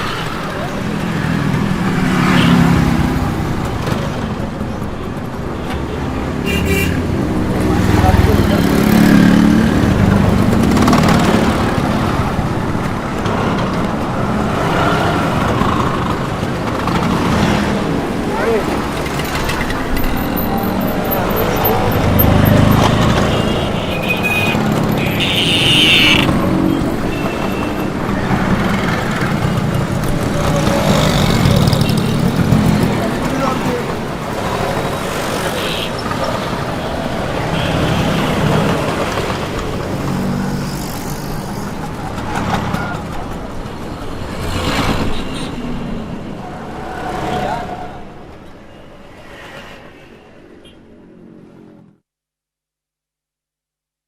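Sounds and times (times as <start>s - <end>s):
car engines passing: 0.0s - 51.8s.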